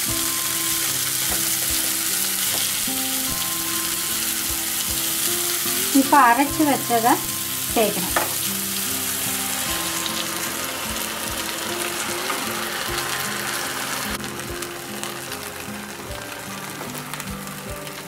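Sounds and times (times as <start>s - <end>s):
hot oil sizzling in a frying pan: 0.0s - 18.0s.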